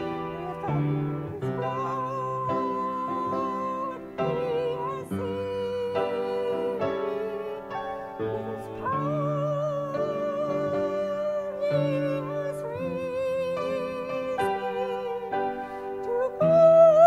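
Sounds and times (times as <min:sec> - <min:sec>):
keyboard chords: 0:00.0 - 0:17.0
person singing with vibrato: 0:00.0 - 0:17.0.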